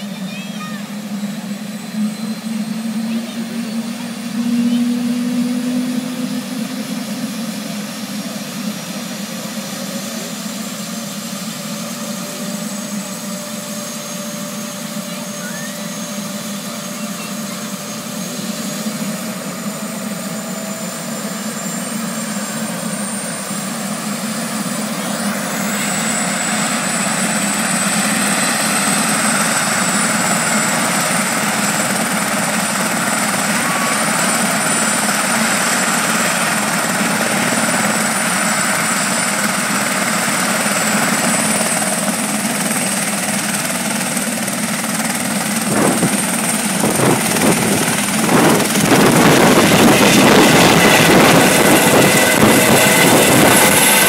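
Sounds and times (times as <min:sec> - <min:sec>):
helicopter engine and rotor roar: 0:00.0 - 0:54.0
high turbine whine: 0:00.0 - 0:54.0.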